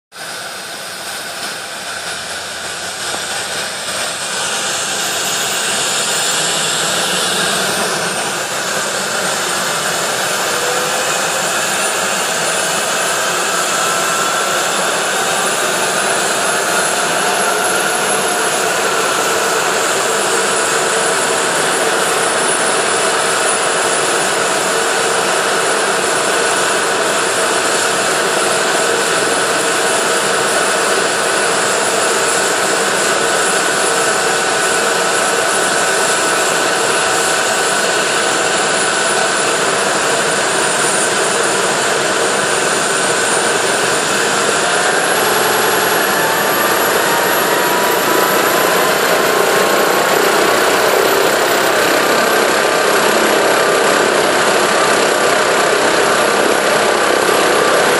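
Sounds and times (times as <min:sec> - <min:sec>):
helicopter turbine and rotor: 0:00.1 - 0:57.9
high whine rising in pitch: 0:00.1 - 0:57.9.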